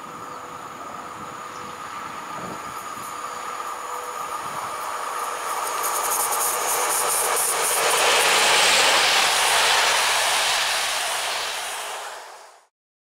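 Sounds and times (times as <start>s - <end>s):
train rushing past: 0.0s - 12.7s.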